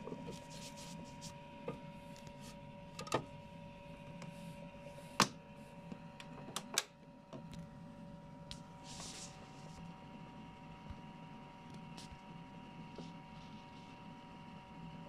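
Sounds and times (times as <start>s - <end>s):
machine hum with whining tones: 0.0s - 15.0s.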